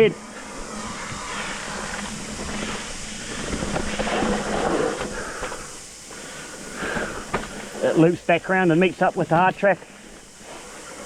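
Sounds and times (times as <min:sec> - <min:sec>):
bike tyres rumbling over dirt: 0:00.0 - 0:11.0.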